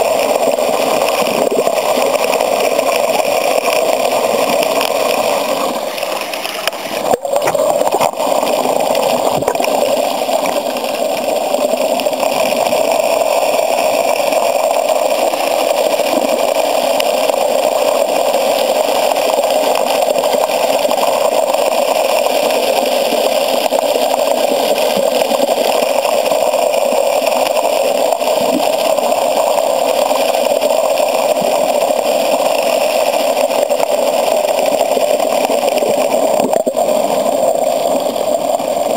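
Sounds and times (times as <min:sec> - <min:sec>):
water rushing into pipe underwater: 0:00.0 - 0:38.9.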